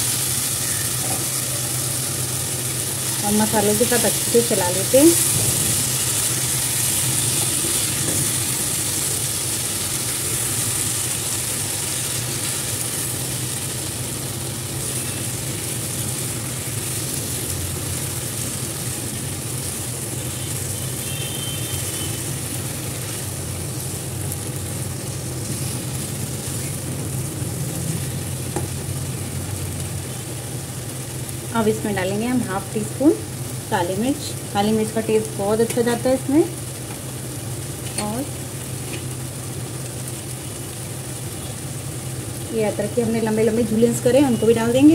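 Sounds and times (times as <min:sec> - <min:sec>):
vegetables sizzling in oil: 0:00.0 - 0:44.9.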